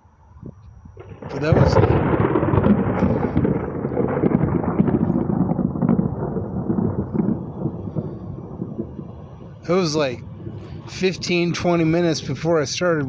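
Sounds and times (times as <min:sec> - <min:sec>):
thunder rumbling: 0:00.8 - 0:13.0
thunder cracks: 0:01.0 - 0:13.0.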